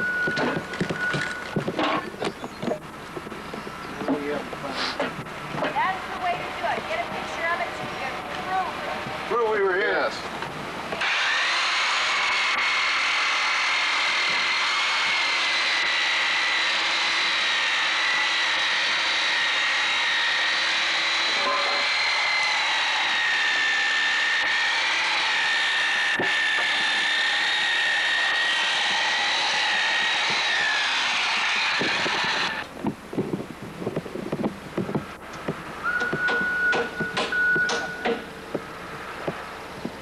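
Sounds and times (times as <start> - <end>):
motor tool whining: 0.0 - 4.2, 10.2 - 40.0.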